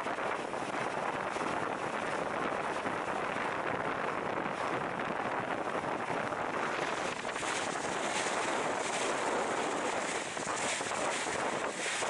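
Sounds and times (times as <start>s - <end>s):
wind and sea water rushing: 0.0s - 12.0s
wind buffeting microphone: 0.0s - 12.0s.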